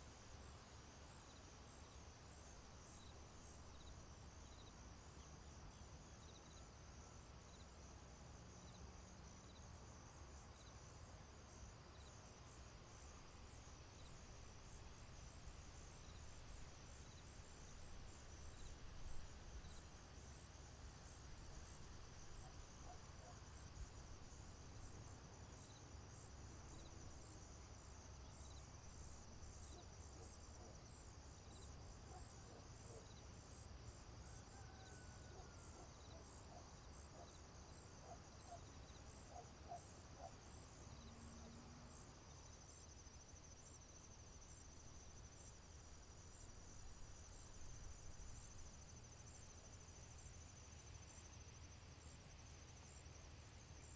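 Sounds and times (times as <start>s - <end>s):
insects chirping: 0.3s - 53.9s.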